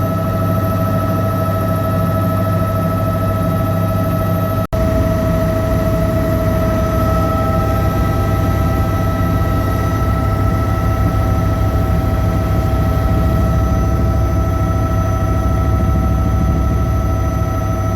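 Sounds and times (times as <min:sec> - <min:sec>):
helicopter engine and rotors droning: 0:00.0 - 0:17.9
constant whine: 0:00.1 - 0:17.9.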